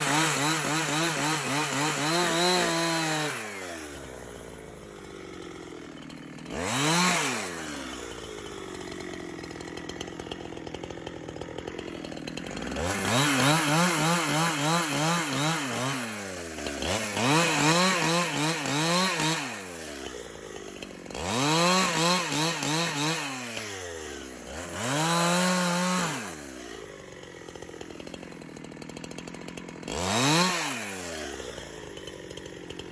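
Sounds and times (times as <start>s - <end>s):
chainsaw cutting wood: 0.0s - 32.9s.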